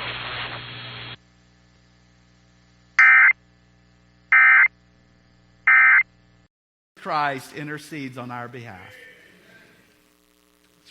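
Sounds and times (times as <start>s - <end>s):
faint steady hum: 0.1s - 10.9s.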